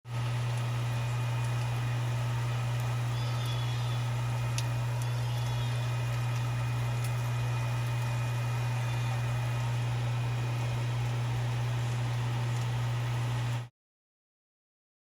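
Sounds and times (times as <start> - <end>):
steady low hum: 0.1 - 13.7.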